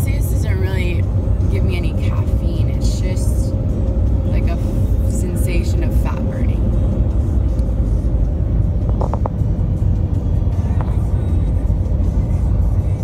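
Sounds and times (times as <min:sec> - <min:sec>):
road rumble inside car cab: 0:00.0 - 0:13.0.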